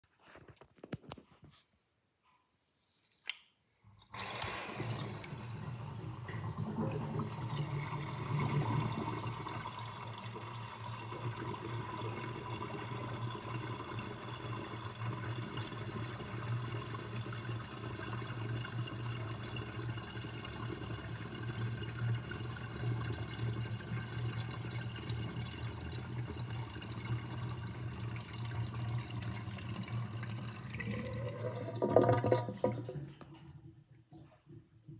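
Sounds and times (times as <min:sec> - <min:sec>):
sink water draining and gurgling: 0:04.0 - 0:33.8.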